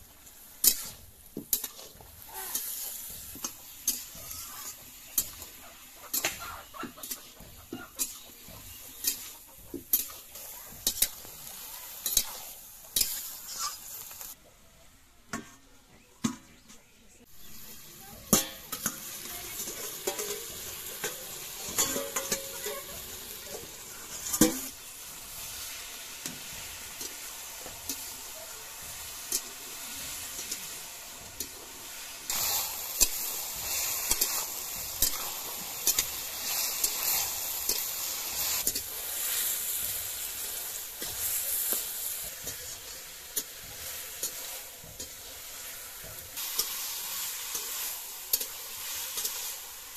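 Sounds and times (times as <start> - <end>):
food sizzling: 0.0 - 14.4, 17.2 - 49.9
spatula scraping a wok: 0.0 - 14.4, 17.4 - 49.9.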